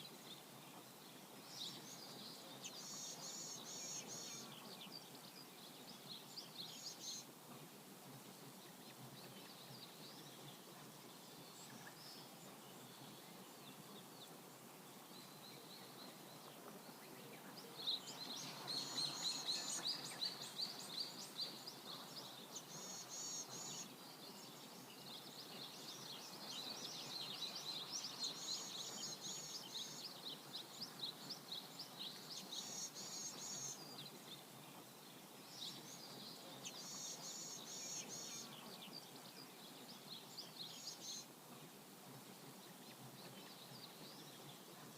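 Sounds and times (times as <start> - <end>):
faint steady background hiss: 0.0 - 44.9.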